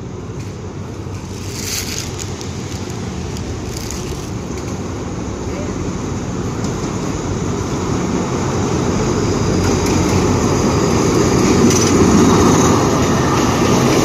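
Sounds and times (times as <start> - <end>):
diesel locomotive passing: 0.0 - 14.0.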